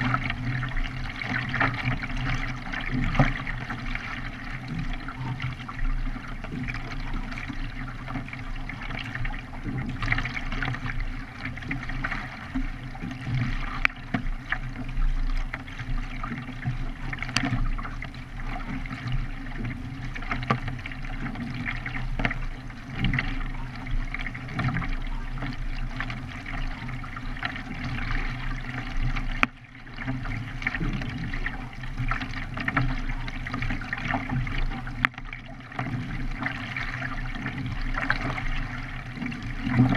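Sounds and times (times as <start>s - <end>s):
low water rumble: 0.0s - 39.9s
water splashing along kayak: 0.0s - 39.9s.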